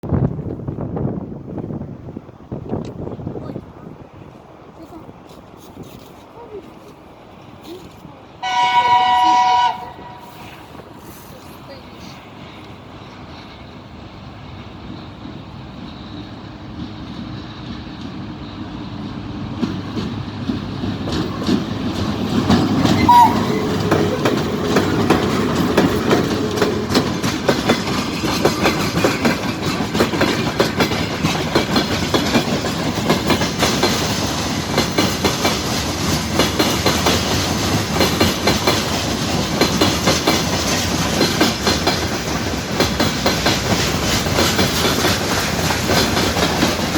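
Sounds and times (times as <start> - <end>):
freight train passing: 0.0 - 46.9
wheels clacking over rail joints: 6.2 - 46.9.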